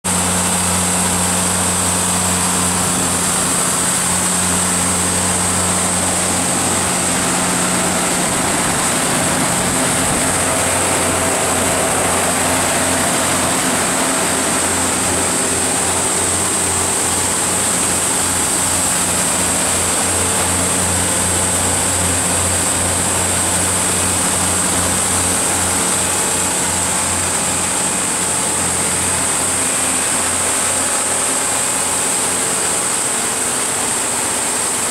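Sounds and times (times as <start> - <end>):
high whine: 0.1 - 34.0
diesel generator engine hum: 0.1 - 34.9.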